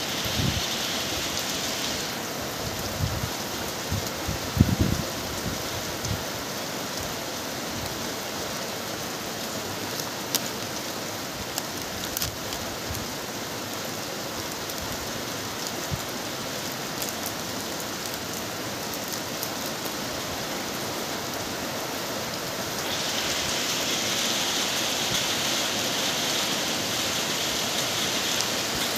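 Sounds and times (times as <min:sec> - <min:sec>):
heavy rain hissing: 0:00.0 - 0:28.9.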